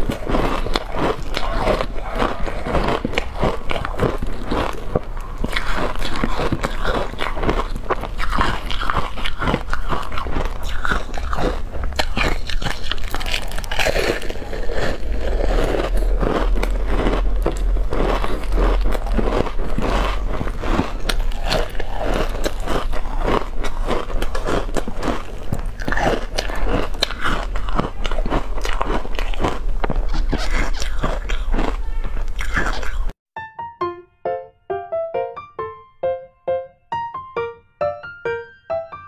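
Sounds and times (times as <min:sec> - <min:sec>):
crisp crunches of chewing ice: 0:00.0 - 0:33.1.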